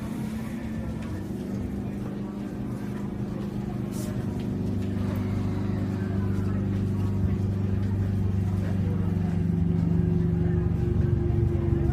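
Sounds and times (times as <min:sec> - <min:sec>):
train running noise: 0:00.0 - 0:11.9.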